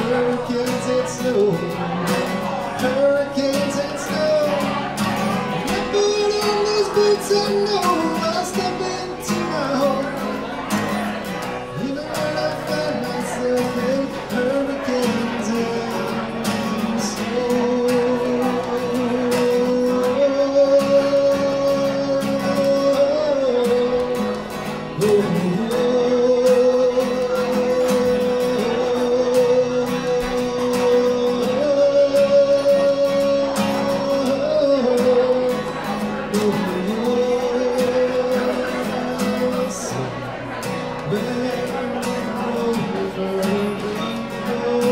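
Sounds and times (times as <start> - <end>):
man singing long notes: 0.0 - 44.9
strummed acoustic guitar: 0.0 - 44.9.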